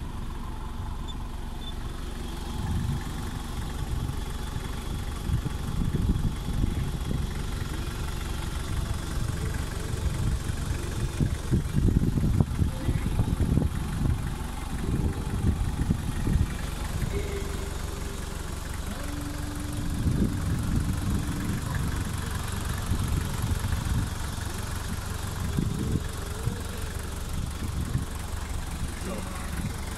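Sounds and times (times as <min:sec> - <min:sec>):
vehicle engine idling: 0:00.0 - 0:29.9.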